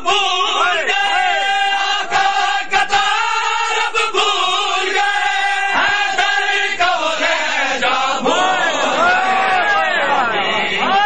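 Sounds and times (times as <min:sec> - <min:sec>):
crowd of men chanting a lament: 0:00.0 - 0:11.0.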